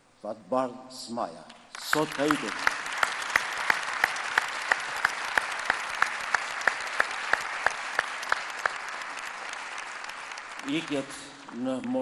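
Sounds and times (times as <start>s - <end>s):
audience applauding: 1.7s - 12.0s
person clapping loudly: 1.7s - 12.0s.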